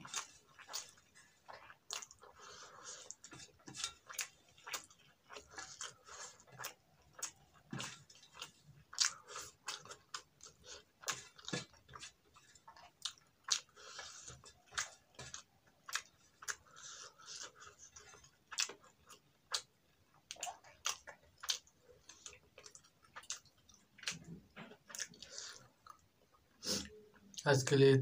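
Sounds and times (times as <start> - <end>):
wet chewing smacks: 0.0 - 27.4.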